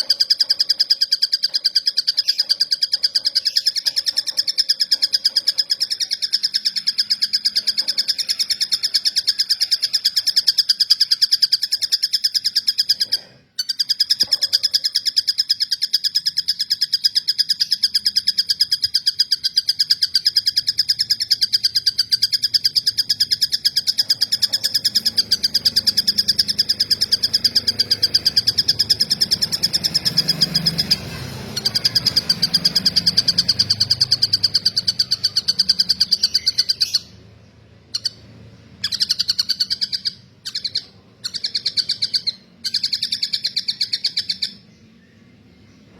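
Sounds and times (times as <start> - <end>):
kingfisher chirping song: 0.0 - 45.9.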